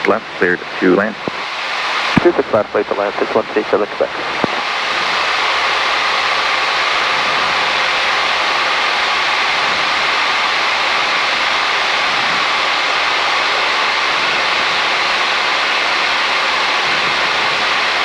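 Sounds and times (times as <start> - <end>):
aircraft engine and propeller noise: 0.0 - 18.0.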